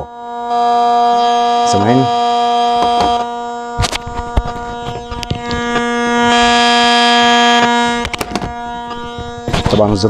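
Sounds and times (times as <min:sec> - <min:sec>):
loudspeaker electrical buzzing whine: 0:00.0 - 0:10.0.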